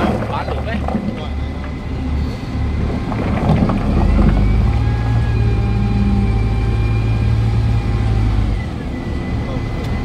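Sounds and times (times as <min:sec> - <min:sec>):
diesel engine running under load: 0:00.0 - 0:10.0.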